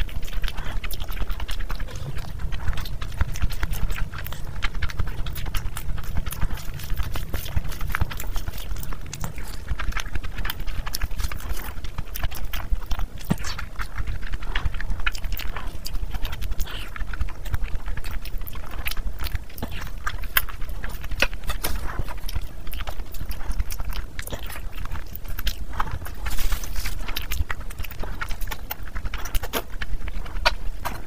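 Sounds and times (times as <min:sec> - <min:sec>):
wet chewing and lip-smacking: 0:00.0 - 0:31.0.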